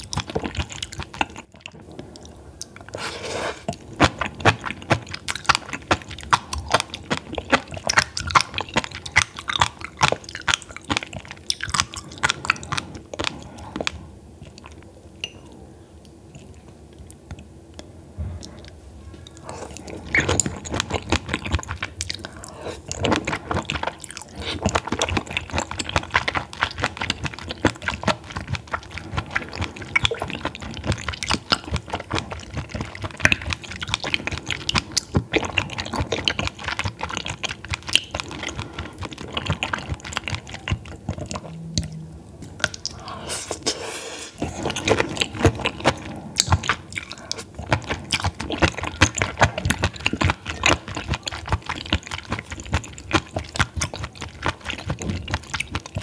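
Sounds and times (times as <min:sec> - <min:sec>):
close chewing clicks: 0:00.0 - 0:03.0, 0:03.6 - 0:43.2, 0:44.4 - 0:56.0.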